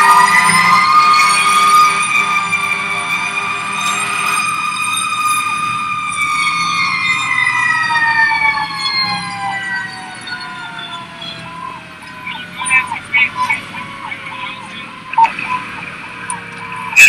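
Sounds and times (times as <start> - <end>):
fire engine siren wailing: 0.0 - 17.0.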